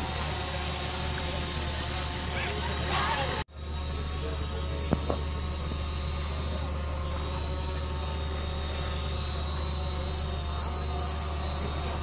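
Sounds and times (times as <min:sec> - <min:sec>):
faint high whine: 0:00.0 - 0:12.0
low machine hum: 0:00.0 - 0:12.0.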